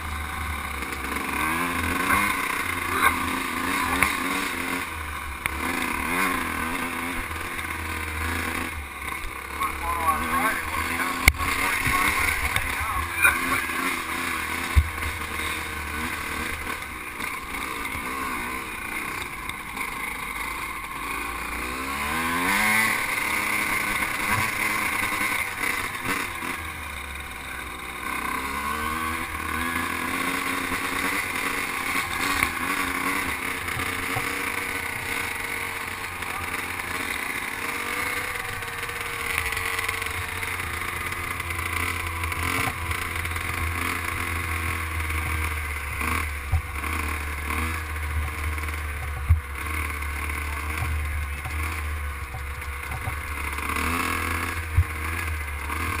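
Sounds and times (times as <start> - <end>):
two-stroke motorbike engine revving: 0.0 - 56.0.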